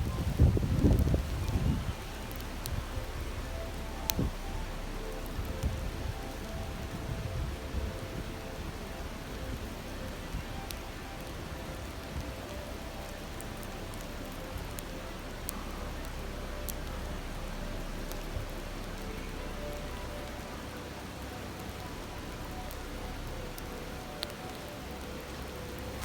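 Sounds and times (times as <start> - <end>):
campfire crackling: 0.0 - 26.0
river babbling: 0.0 - 26.0.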